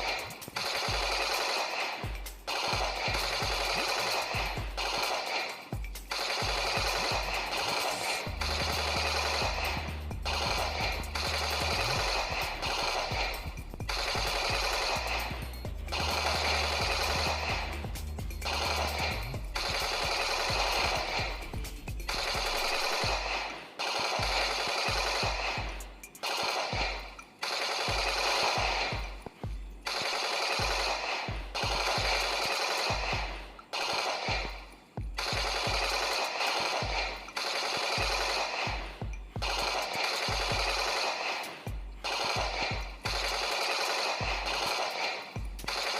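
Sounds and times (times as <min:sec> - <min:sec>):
toy gun machine-gun sound effects: 0:00.0 - 0:45.9.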